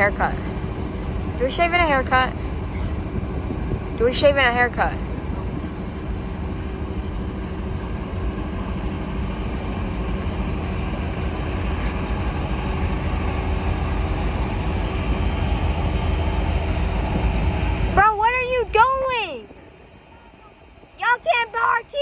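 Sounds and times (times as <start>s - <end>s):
heavy engine rumbling: 0.0s - 22.0s.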